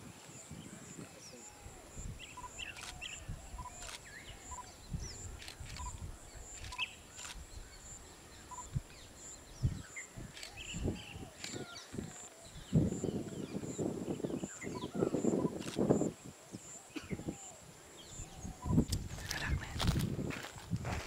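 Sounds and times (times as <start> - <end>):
birds chirping: 0.4 - 20.0.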